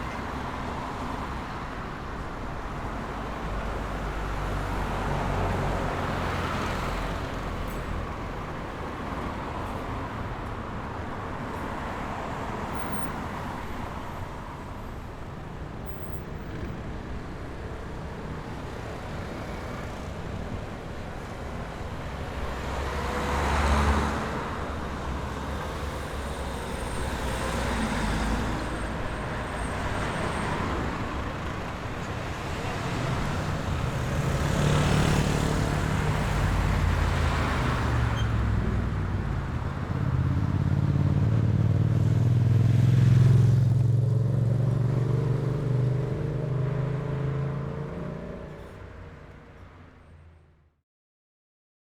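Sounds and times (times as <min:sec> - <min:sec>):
vehicles passing: 0:00.0 - 0:50.7
hum of cars: 0:00.0 - 0:50.8.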